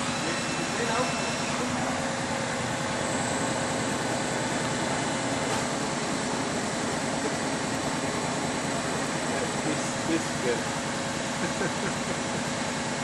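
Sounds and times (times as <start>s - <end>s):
milling machine whirring hum: 0.0s - 13.0s.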